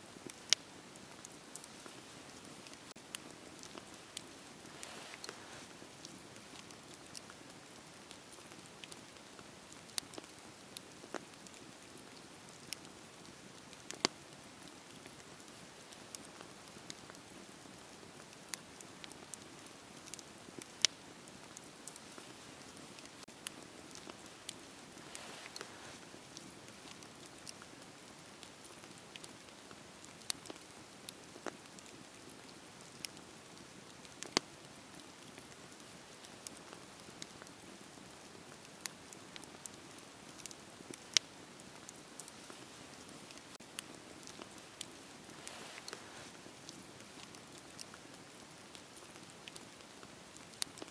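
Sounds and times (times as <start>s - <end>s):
wood fire crackling and popping: 0.1s - 50.9s.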